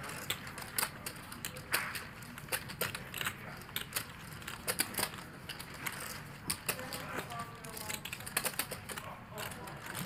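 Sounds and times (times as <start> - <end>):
poker chips clicking: 0.0 - 10.0.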